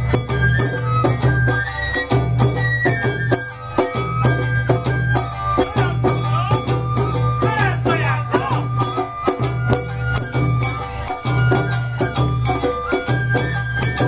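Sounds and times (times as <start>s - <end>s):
drums and small gong beat: 0.0s - 14.0s
high flute melody: 0.0s - 14.0s.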